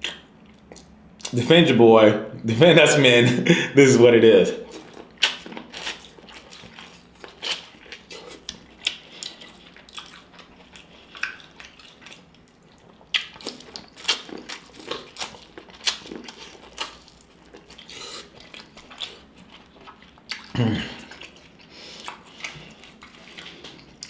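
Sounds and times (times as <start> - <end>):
wet eating sounds: 4.6 - 24.0.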